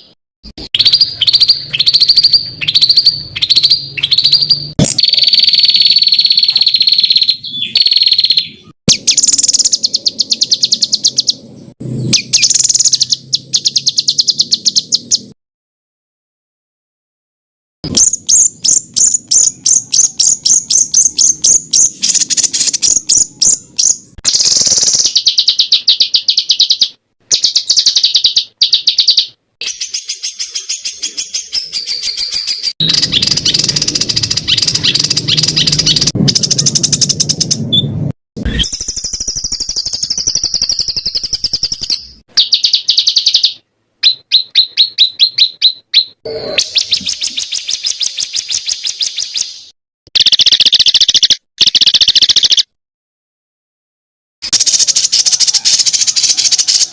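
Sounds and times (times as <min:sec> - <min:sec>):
songbirds chirping and trilling: 0:00.0 - 0:15.4, 0:17.9 - 0:52.8, 0:54.5 - 0:56.9.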